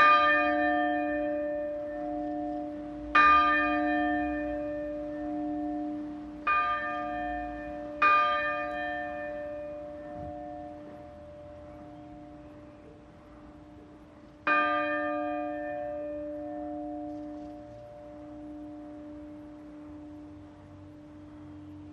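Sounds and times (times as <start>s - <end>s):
church bell strokes: 0.0s - 21.9s.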